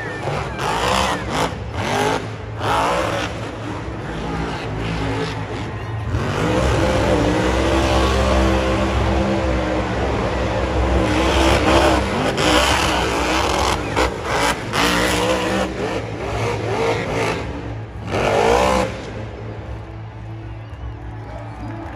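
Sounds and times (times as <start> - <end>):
truck engine revving hard: 0.0 - 19.8.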